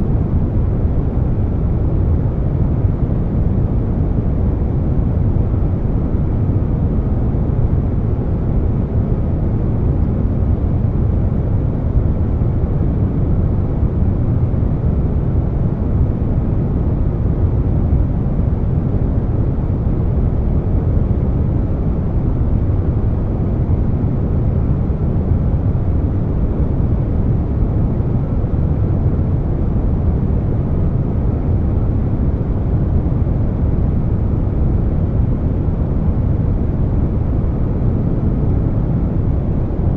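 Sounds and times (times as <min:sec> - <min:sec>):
air conditioner noise: 0:00.0 - 0:39.9.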